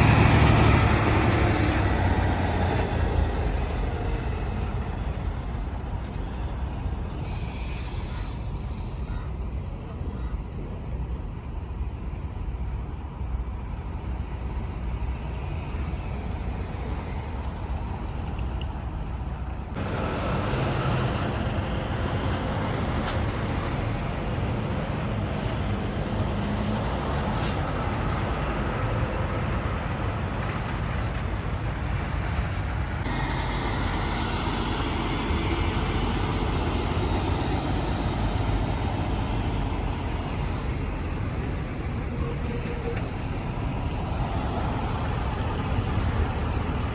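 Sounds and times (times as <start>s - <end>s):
trucks and traffic passing: 0.0s - 46.9s.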